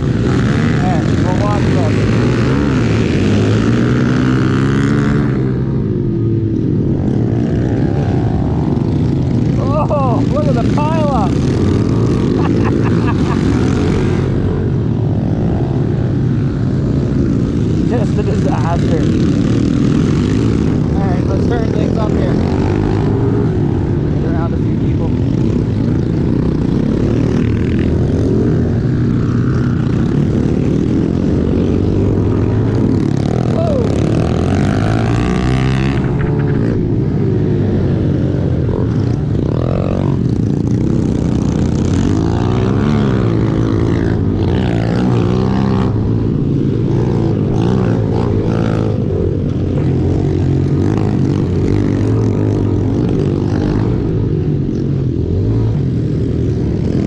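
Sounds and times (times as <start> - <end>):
pit bike engines revving: 0.0 - 57.0.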